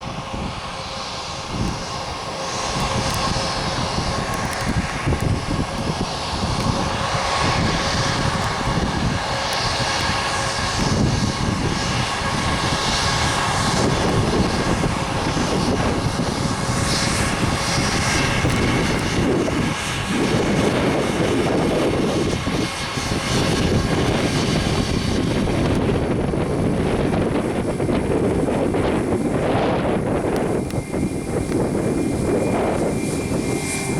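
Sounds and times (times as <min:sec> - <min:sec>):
jet engines roaring in cabin: 0:00.0 - 0:33.9.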